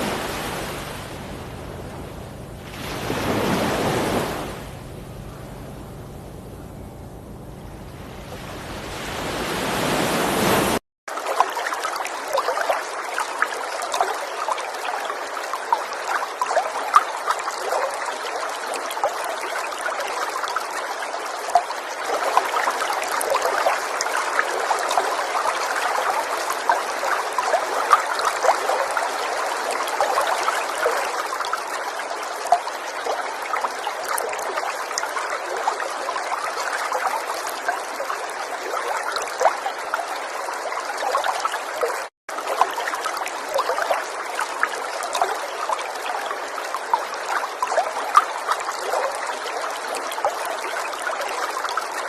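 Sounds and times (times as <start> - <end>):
river water trickling and splashing: 0.0 - 52.0
rush of water: 0.0 - 52.0.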